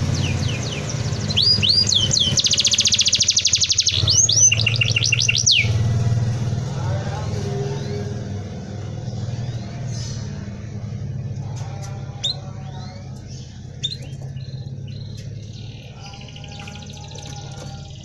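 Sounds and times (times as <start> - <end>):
canary chirping: 0.0 - 18.0.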